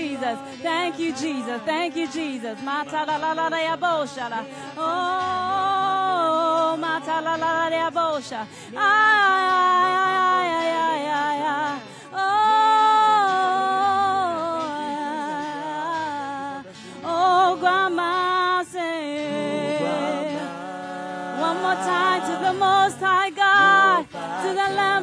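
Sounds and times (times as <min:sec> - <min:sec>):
woman singing into a microphone: 0:00.0 - 0:25.0.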